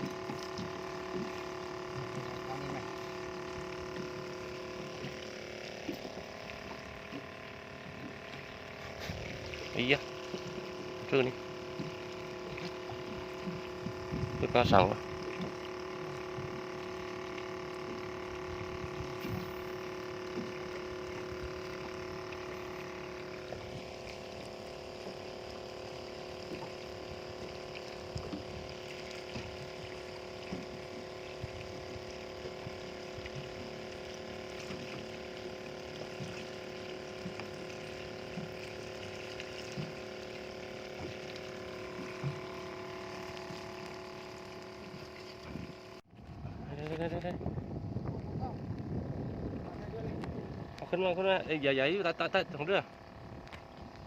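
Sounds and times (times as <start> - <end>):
water washing: 0.0 - 46.0
boat engine humming: 0.0 - 54.0.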